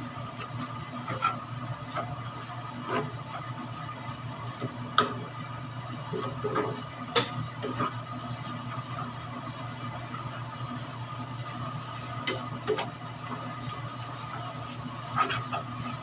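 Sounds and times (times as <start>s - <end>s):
spatula stirring in a pan: 0.0s - 16.0s.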